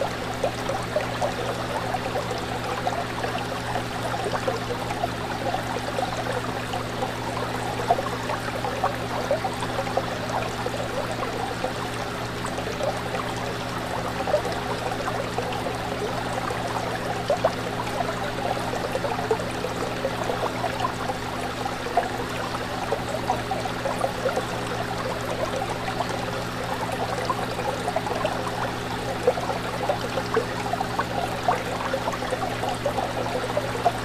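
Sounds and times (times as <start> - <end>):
fish tank water bubbling: 0.0 - 34.0.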